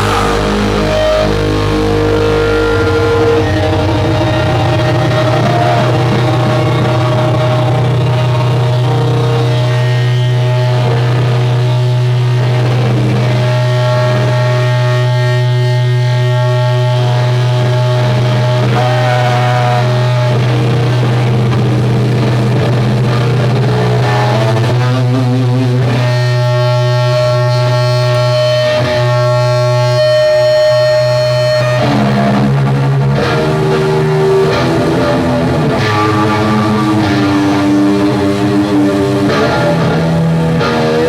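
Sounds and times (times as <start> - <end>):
doom metal band playing live: 0.0 - 41.0.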